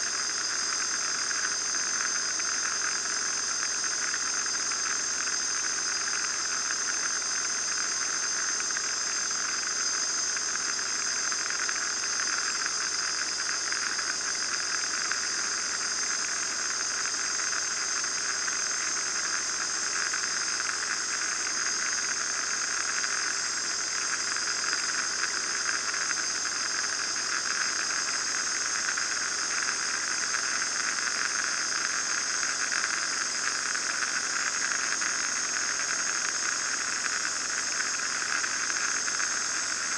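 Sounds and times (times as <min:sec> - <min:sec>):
steady high-pitched whine: 0:00.0 - 0:39.9.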